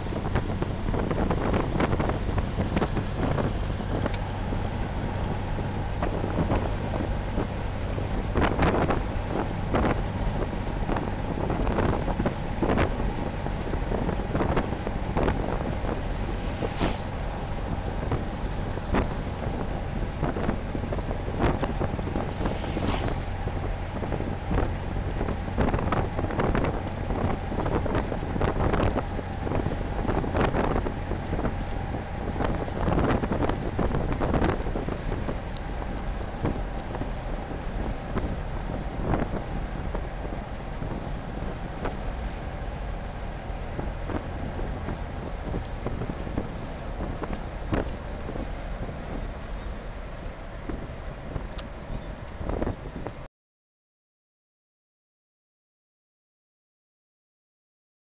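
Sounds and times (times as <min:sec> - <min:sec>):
car engine and road noise: 0:00.0 - 0:53.3
wind buffeting microphone: 0:00.0 - 0:53.3.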